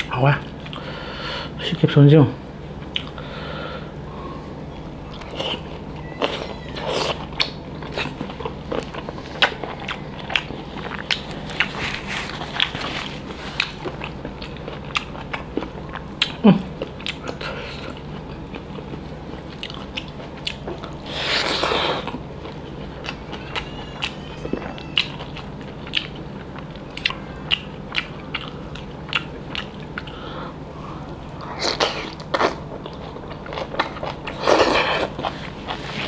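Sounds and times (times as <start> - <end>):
man chewing food: 0.0 - 0.9, 2.7 - 36.0.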